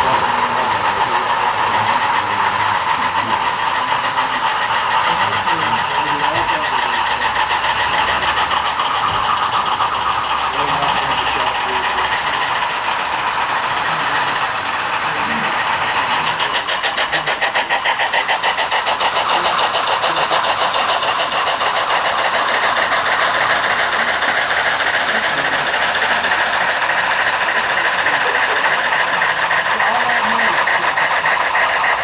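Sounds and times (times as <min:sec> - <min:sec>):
model steam locomotive chuffing: 0:00.0 - 0:32.0
murmur of voices: 0:00.0 - 0:32.0.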